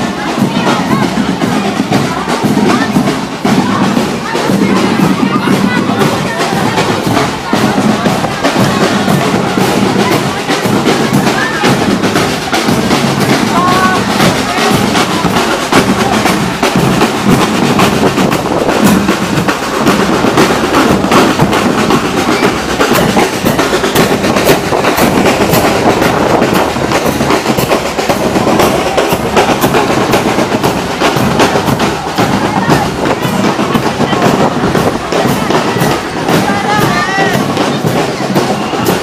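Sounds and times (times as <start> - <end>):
snare and bass drums marching: 0.0 - 39.0.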